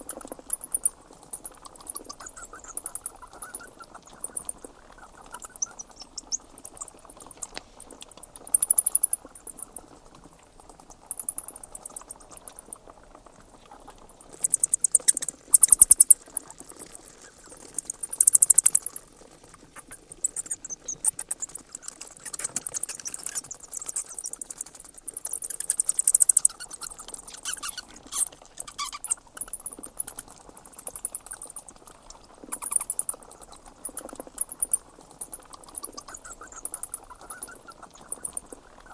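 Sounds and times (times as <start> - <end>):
bats squeaking and chittering: 0.0 - 38.9.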